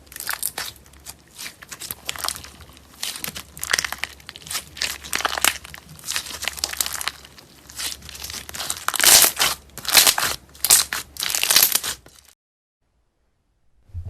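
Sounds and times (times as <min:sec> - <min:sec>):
slime squeezed by hand crackling: 0:00.0 - 0:12.3.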